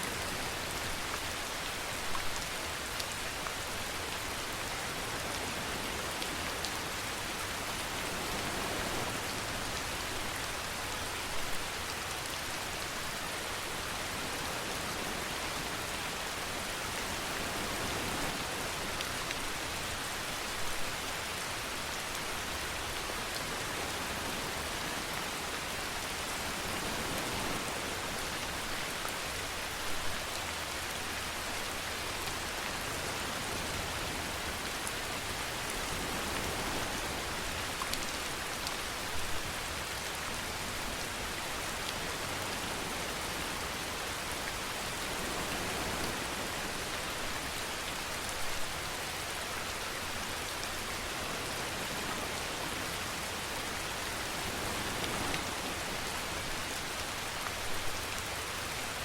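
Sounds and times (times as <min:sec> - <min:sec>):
louder rain patter: 0:00.0 - 0:59.0
steady rain falling: 0:00.0 - 0:59.0.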